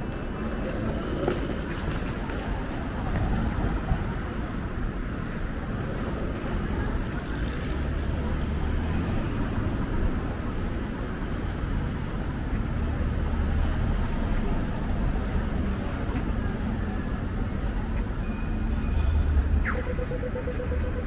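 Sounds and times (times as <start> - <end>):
hum of passing vehicles: 0.0 - 21.0.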